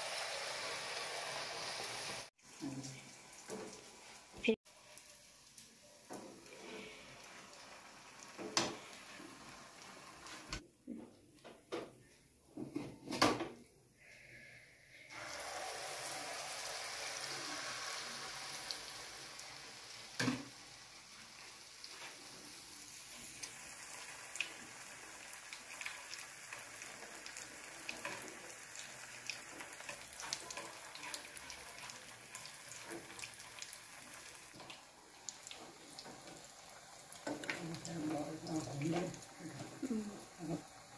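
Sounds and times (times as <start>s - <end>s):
batter sizzling in hot oil: 0.0s - 10.6s, 15.1s - 40.9s.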